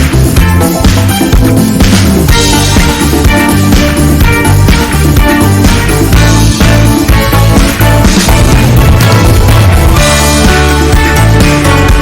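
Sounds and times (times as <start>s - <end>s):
loud music with steady beat: 0.0s - 12.0s.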